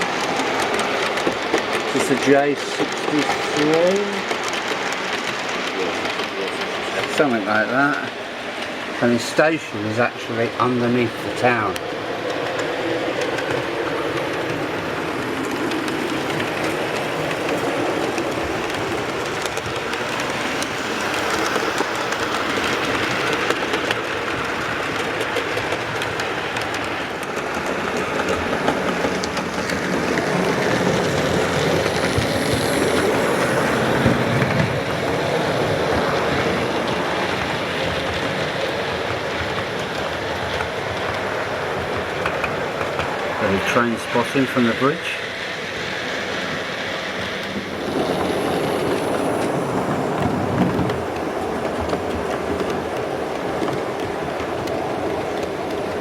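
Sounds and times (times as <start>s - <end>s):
model train rumbling on track: 0.0s - 56.0s
wheels clicking over rail joints: 0.0s - 56.0s.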